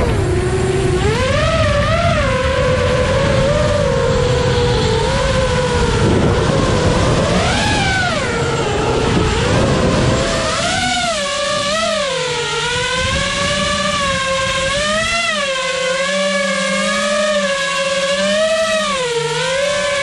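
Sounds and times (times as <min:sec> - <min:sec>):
drone motors and propellers whining: 0:00.0 - 0:20.0
rough wind rush: 0:00.0 - 0:20.0.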